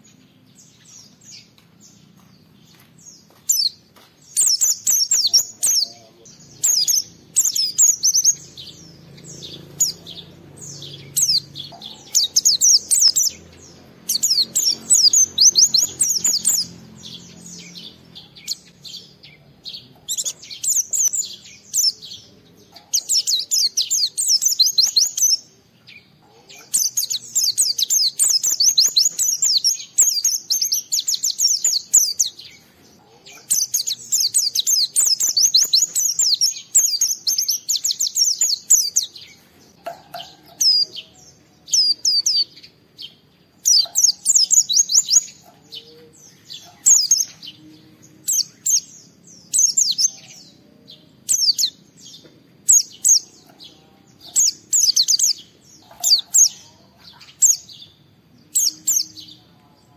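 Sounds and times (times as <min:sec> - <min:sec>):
bird singing high chattering notes: 0:00.0 - 0:32.7, 0:33.3 - 0:39.4, 0:40.1 - 0:59.5.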